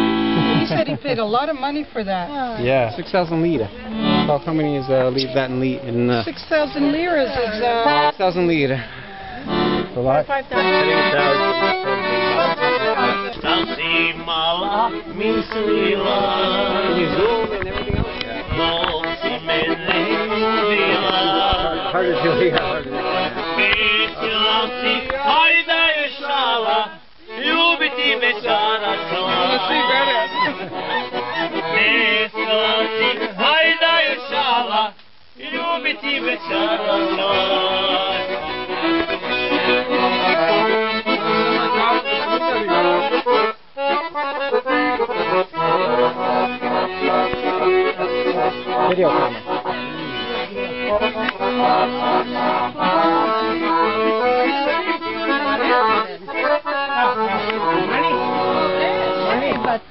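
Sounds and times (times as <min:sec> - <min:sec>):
accordion folk tune: 0:00.0 - 0:59.9.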